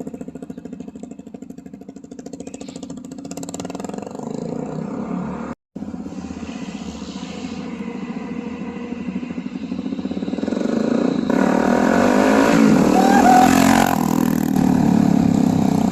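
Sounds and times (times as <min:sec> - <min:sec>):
motorcycle engine revving: 0:00.0 - 0:05.6, 0:07.8 - 0:15.9.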